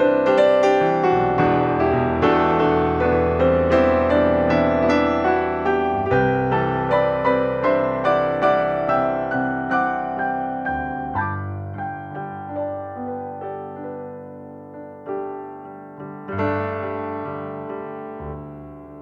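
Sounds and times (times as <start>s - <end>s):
keyboard notes music: 0.0s - 19.0s.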